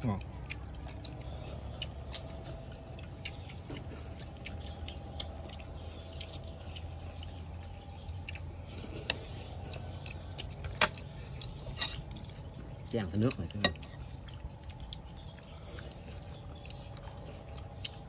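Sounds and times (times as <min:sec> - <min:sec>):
chewing: 0:00.0 - 0:18.0
chopsticks clicking against bowls: 0:00.2 - 0:16.0.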